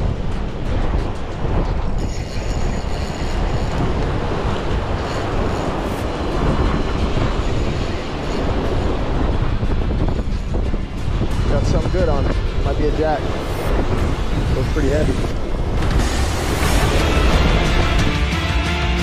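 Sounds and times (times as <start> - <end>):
wind buffeting microphone: 0.0 - 18.3
sea surf: 0.0 - 19.0.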